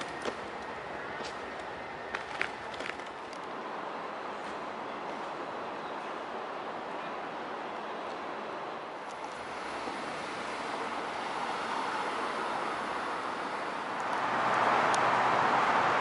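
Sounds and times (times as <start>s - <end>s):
passing cars: 0.0s - 6.8s, 8.9s - 16.0s.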